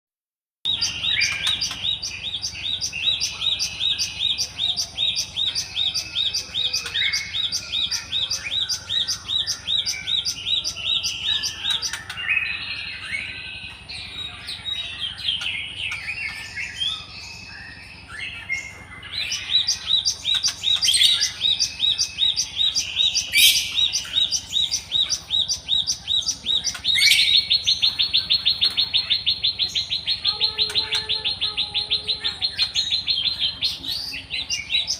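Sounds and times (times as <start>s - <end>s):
songbird chirping and trilling: 0.6s - 34.9s.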